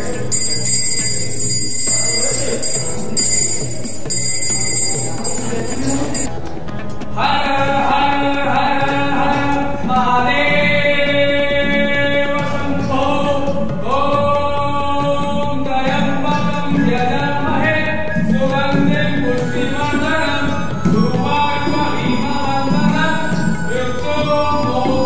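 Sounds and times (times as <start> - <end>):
devotional singing: 0.0 - 25.0.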